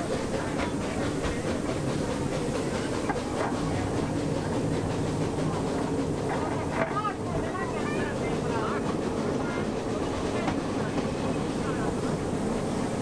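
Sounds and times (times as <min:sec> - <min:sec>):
small train wheels rattling on rails: 0:00.0 - 0:13.0.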